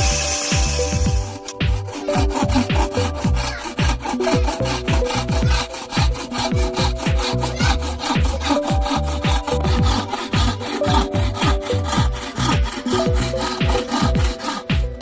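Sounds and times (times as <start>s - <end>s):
hand saw cutting wood: 0.0s - 15.0s.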